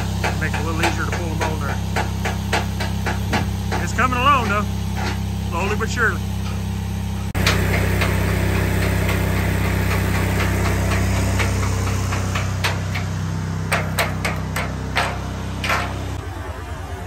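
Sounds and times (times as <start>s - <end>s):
hammering on steel: 0.0s - 5.3s, 7.4s - 16.2s
engine hum: 0.0s - 17.0s.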